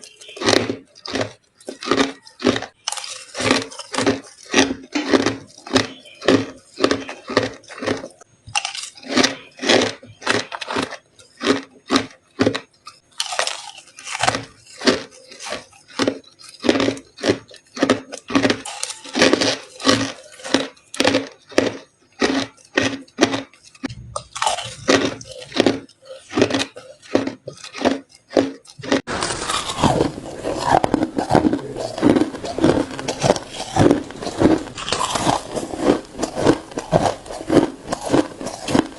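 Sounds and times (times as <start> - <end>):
crushed ice being crunched: 0.0 - 38.9.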